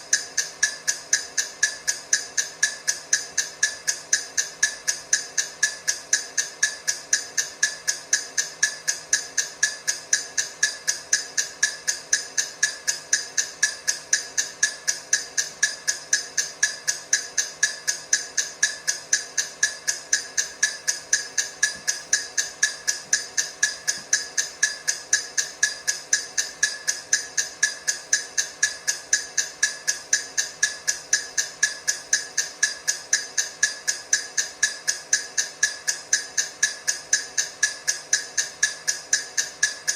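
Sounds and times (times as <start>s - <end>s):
timer ticking: 0.0s - 39.9s.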